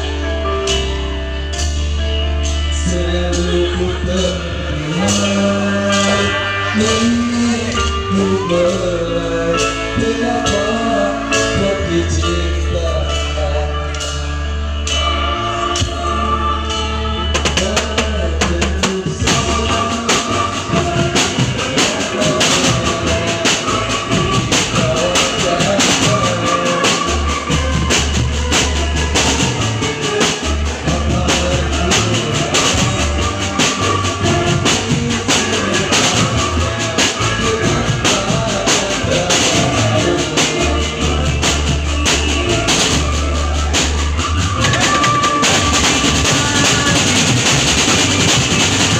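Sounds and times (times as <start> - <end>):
band playing held chords: 0.0 - 48.9
drum kit beat: 0.0 - 48.9.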